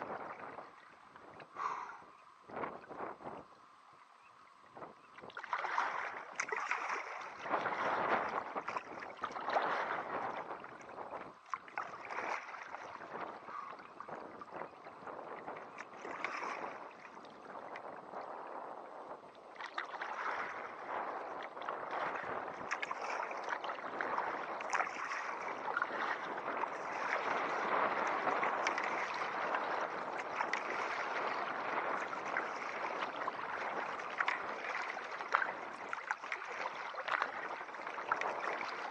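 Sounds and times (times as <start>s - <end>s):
paddle splashes: 0.0s - 38.9s
water rushing against hull: 0.0s - 38.9s.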